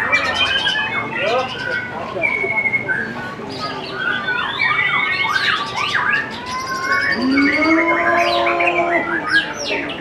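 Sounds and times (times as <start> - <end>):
birds singing whistles and chatter: 0.0 - 10.0.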